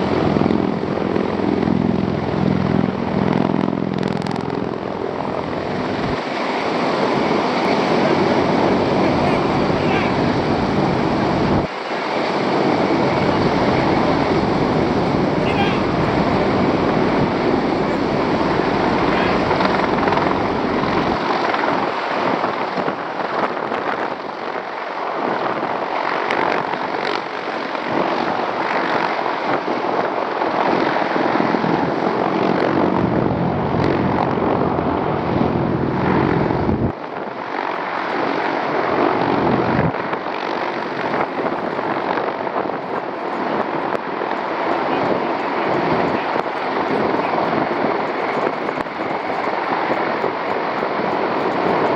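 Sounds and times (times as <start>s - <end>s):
aircraft engine rush: 0.0s - 51.9s.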